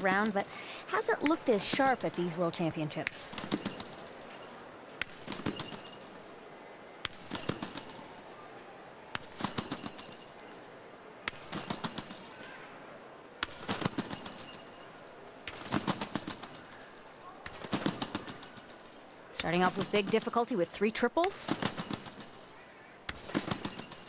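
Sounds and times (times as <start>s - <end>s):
trampoline rattling and clanking: 0.0s - 6.5s, 7.2s - 8.6s, 9.2s - 10.7s, 11.4s - 12.6s, 13.5s - 24.0s
faint arena hum: 0.0s - 24.0s.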